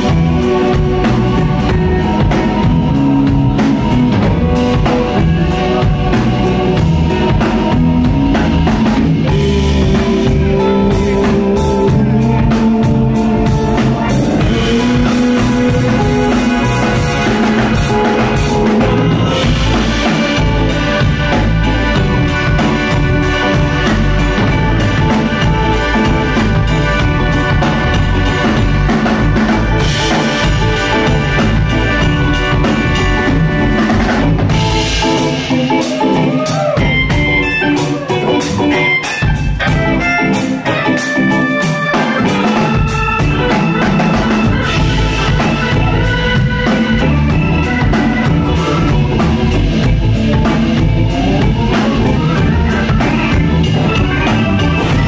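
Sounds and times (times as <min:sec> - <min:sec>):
drum kit groove: 0:00.0 - 0:55.0
electric bass: 0:00.0 - 0:55.0
electric guitar: 0:00.0 - 0:55.0
organ holding long notes: 0:00.0 - 0:55.0.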